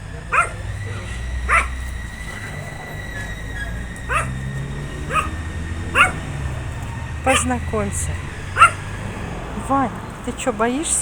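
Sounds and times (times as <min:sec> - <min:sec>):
low hum: 0:00.0 - 0:11.0
dog barking: 0:00.1 - 0:09.2.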